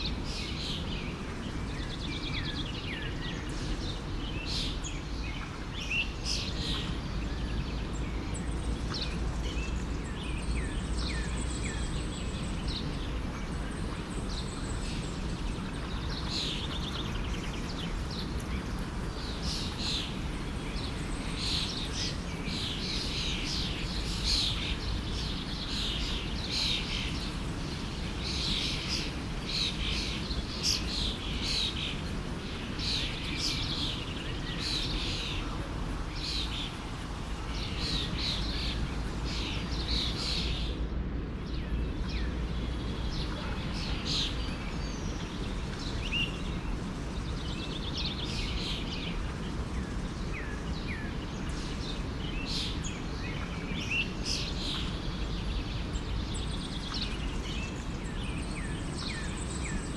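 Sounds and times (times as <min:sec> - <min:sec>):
songbirds chirping and trilling: 0:00.0 - 0:59.9
forest stream flowing: 0:10.2 - 0:59.9.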